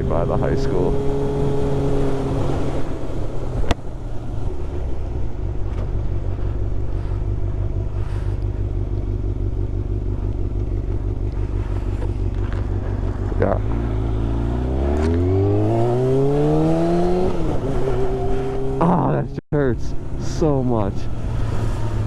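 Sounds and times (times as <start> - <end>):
motorcycle engine running: 0.0 - 19.3.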